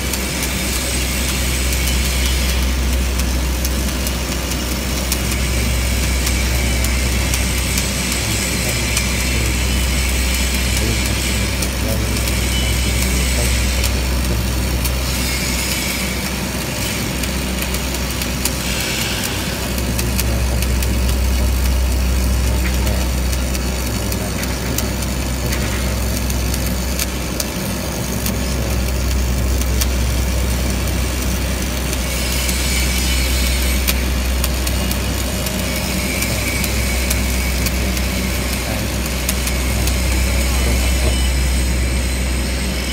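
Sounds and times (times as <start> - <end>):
low machine hum: 0.0 - 42.9
welding arc crackling and hissing: 0.0 - 42.9.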